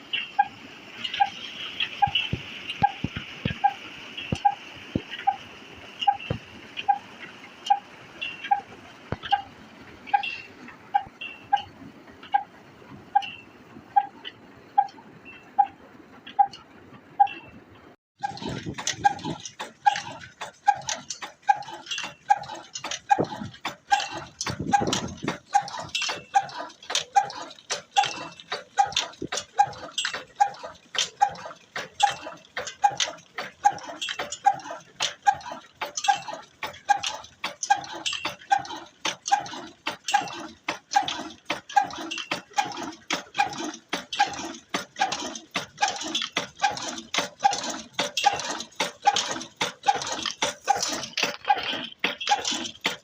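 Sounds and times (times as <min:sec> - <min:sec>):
stationary engine knocking: 0:00.0 - 0:17.6, 0:18.2 - 0:53.0.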